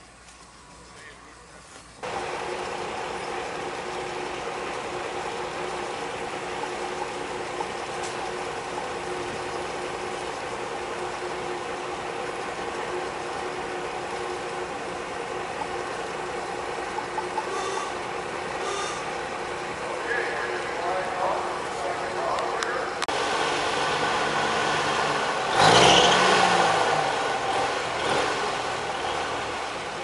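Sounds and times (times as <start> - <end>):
engine idling: 0.0 - 30.0
outdoor background noise: 0.0 - 30.0.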